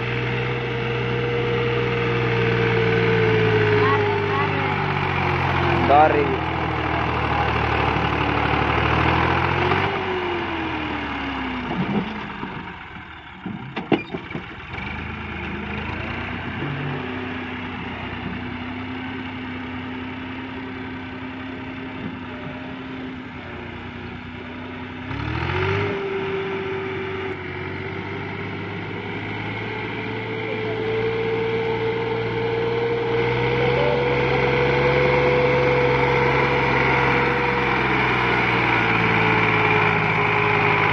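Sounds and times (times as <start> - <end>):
tractor diesel engine labouring: 0.0 - 40.9.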